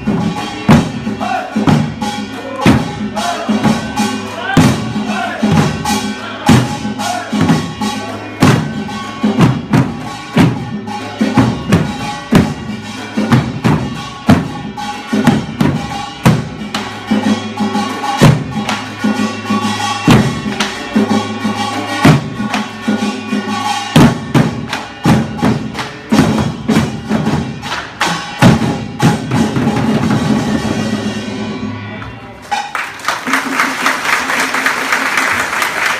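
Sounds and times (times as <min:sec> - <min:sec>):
barrel drums in driving rhythm: 0:00.0 - 0:31.4
ringing metal percussion: 0:00.0 - 0:32.8.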